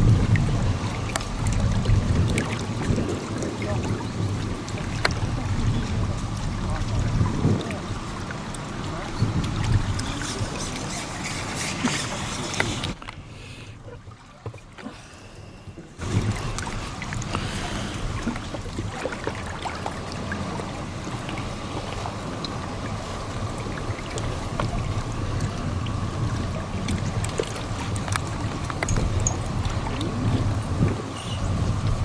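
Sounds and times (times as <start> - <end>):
wind on microphone: 0.0 - 8.3, 8.9 - 13.0, 15.6 - 32.0.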